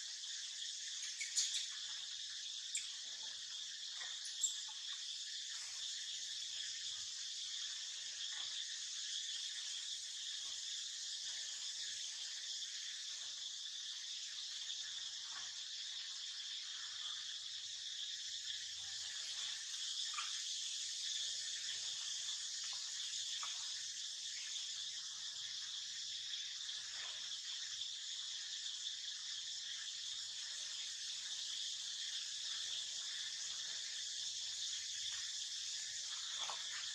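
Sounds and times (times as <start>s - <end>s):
insects buzzing: 0.0s - 36.9s.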